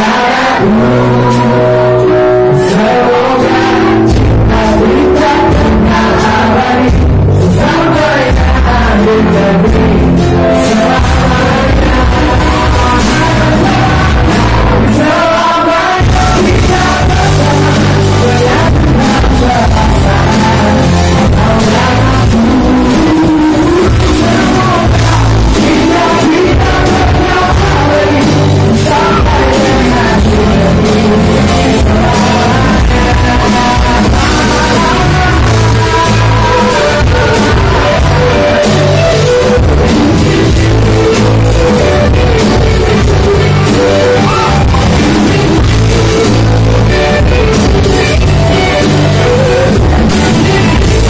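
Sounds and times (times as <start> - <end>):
amplified pop-rock band: 0.0 - 51.0
man singing: 0.0 - 51.0.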